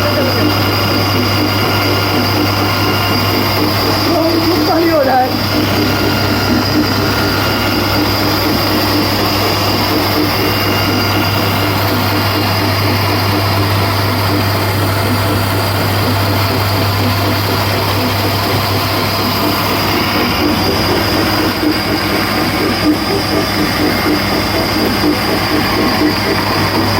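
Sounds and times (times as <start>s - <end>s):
band saw running: 0.0s - 26.9s.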